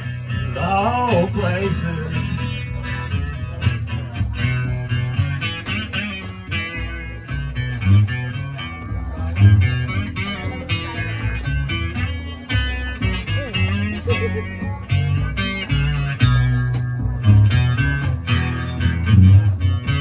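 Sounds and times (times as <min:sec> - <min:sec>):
low bass: 0:00.0 - 0:20.0
plucked guitar: 0:00.0 - 0:20.0.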